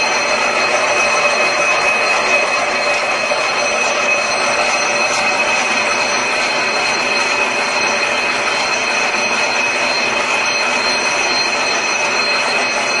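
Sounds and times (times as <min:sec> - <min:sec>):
high machine whine: 0:00.0 - 0:13.0
machine running noise: 0:00.0 - 0:13.0.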